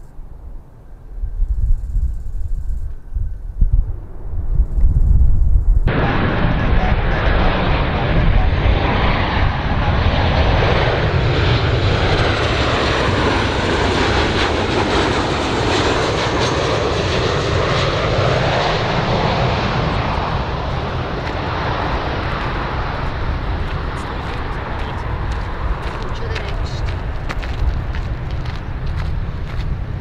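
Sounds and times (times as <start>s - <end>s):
high jet whine: 0.0s - 30.0s
jet engines roaring: 5.8s - 30.0s.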